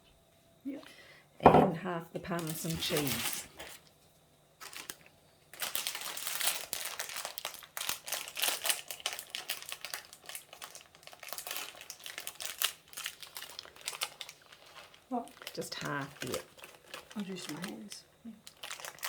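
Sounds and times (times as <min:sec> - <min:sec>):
plastic packet crinkling: 0:02.3 - 0:03.9, 0:04.6 - 0:19.0.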